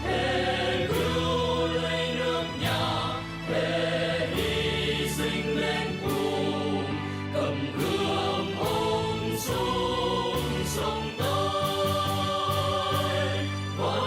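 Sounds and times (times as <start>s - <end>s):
choir and band playing a march: 0.0s - 14.0s.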